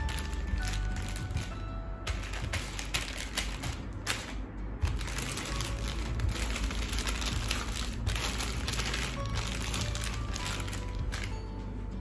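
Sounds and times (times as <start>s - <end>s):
baking paper rustling and crinkling: 0.0s - 11.4s.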